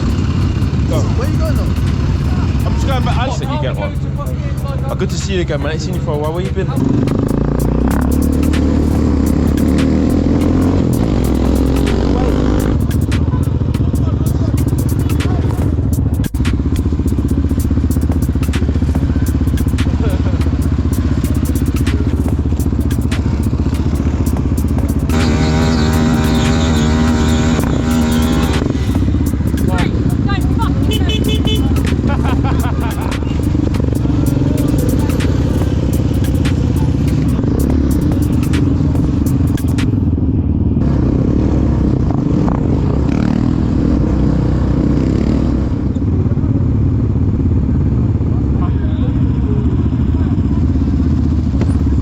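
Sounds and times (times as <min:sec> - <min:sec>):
quad bike engines idling: 0:00.0 - 0:52.0.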